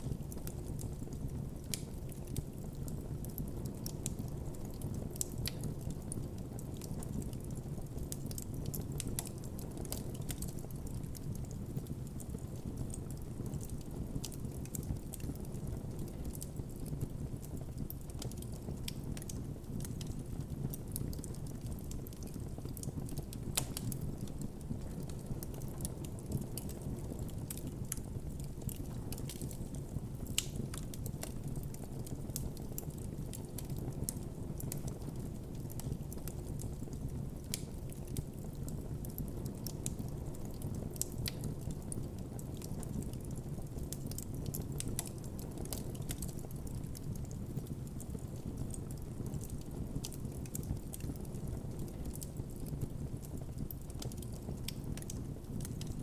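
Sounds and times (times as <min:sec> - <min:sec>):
campfire snaps and pops: 0:00.0 - 0:56.0
low rumble of flames: 0:00.0 - 0:56.0.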